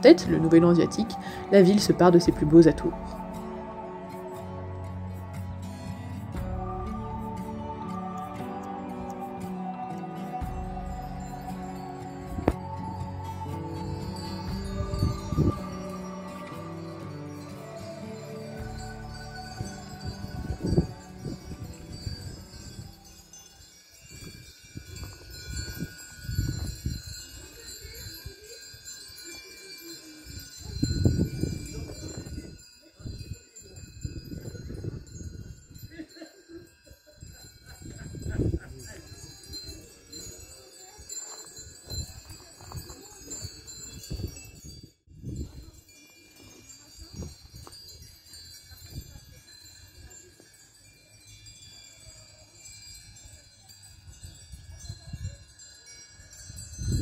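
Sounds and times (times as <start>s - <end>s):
wind chimes tinkling: 0.0s - 57.0s.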